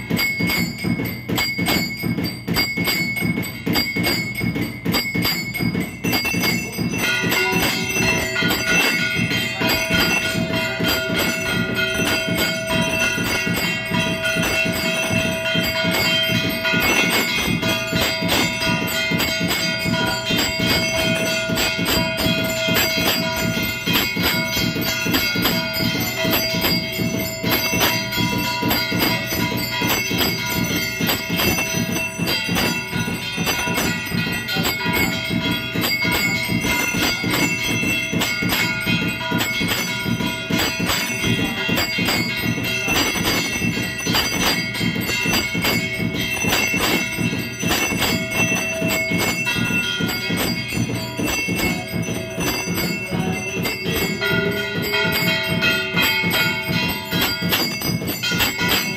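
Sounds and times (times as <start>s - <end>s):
temple bells ringing rapidly: 0.0s - 58.9s.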